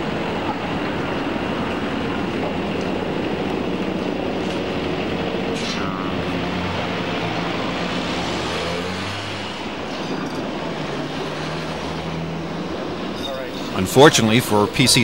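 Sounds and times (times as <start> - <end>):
cars passing: 0.0 - 15.0
street traffic hum: 0.0 - 15.0
streetcar rolling: 0.0 - 15.0.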